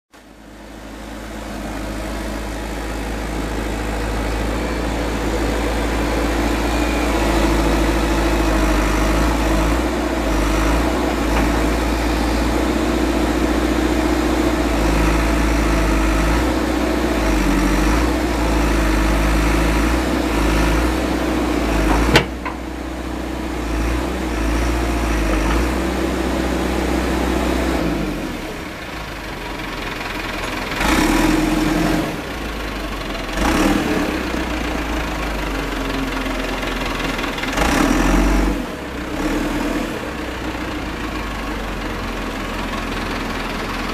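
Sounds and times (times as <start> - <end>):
diesel engine idling: 0.2 - 43.9.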